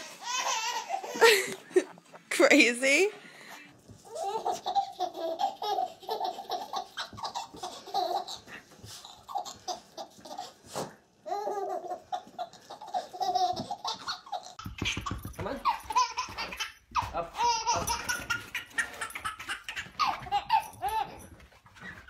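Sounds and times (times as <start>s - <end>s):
baby laughing: 0.0s - 1.9s, 4.1s - 10.6s, 11.2s - 21.2s.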